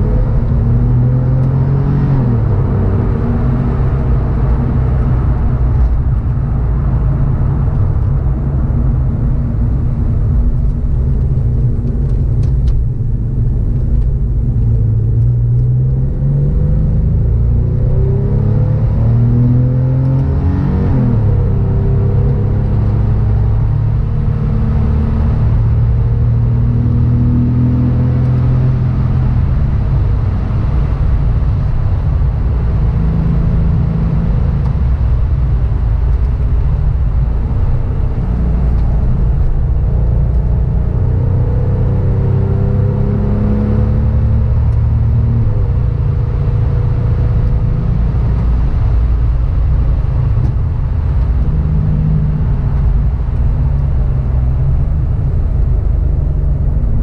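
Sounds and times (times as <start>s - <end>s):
car engine accelerating: 0.0s - 57.0s
tyre and road noise: 0.0s - 57.0s.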